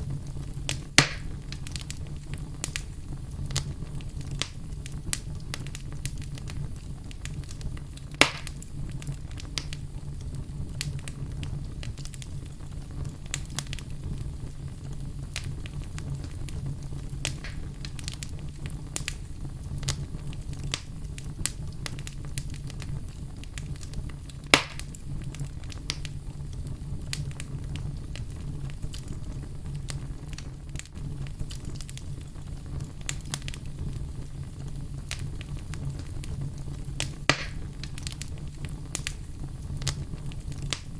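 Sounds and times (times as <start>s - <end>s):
fire rumbling and crackling: 0.0s - 40.9s
sharp pops from fire: 0.0s - 40.9s.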